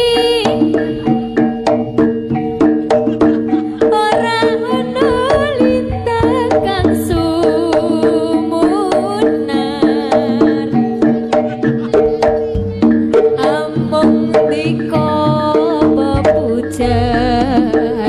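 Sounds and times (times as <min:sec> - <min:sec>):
woman singing: 0:00.0 - 0:01.2, 0:03.5 - 0:18.0
fast hand drum strokes: 0:00.0 - 0:18.0
ringing metallophone tones: 0:00.0 - 0:18.0.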